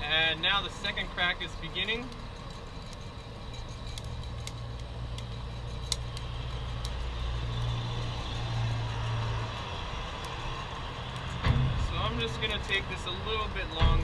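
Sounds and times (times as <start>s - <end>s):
roaster low rumble: 0.0s - 14.0s
coffee beans cracking: 0.6s - 14.0s.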